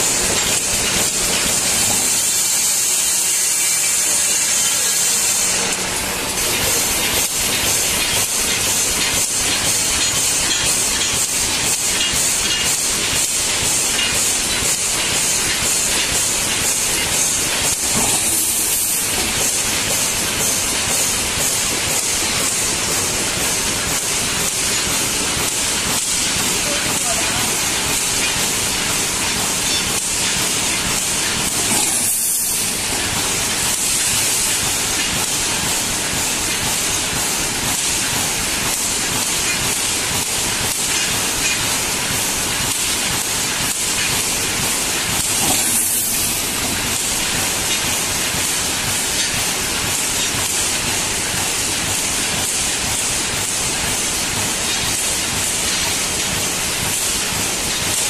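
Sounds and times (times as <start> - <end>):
welding machine hissing: 0.0 - 58.0.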